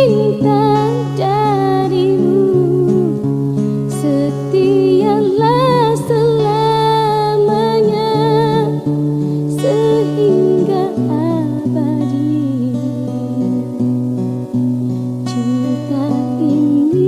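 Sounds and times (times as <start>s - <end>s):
pop ballad music: 0.0s - 17.0s.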